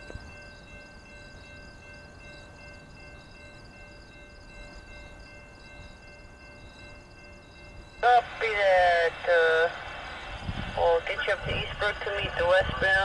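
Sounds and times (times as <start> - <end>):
crossing bells ringing: 0.0 - 13.0
distant train rumble: 0.0 - 13.0.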